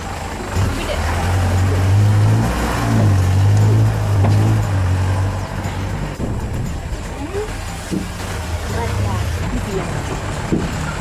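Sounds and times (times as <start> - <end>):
jeep engine pulling under load: 0.0 - 11.0.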